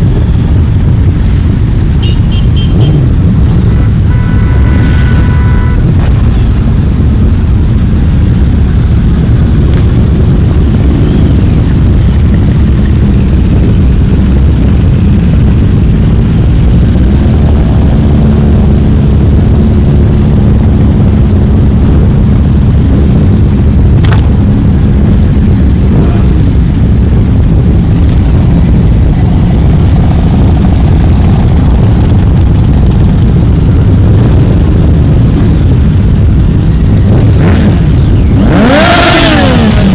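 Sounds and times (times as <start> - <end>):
motorcycle engines rumbling: 0.0 - 39.9.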